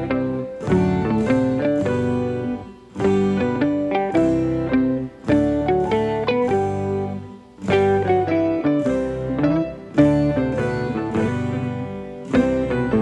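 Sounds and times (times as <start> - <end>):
plucked guitar-like melody: 0.0 - 13.0.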